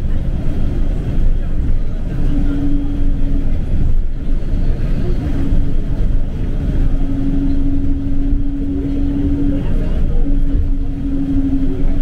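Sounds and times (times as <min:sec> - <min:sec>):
bus engine low rumble: 0:00.0 - 0:12.0
steady whine: 0:00.0 - 0:12.0.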